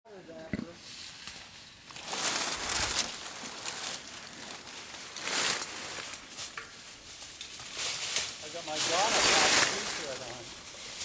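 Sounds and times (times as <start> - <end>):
leaves and branches rustling: 0.8 - 11.0.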